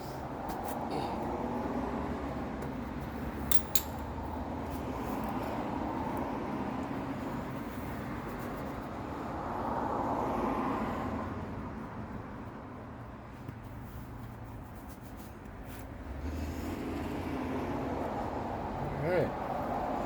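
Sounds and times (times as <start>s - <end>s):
rumbling vehicle traffic: 0.0s - 20.0s.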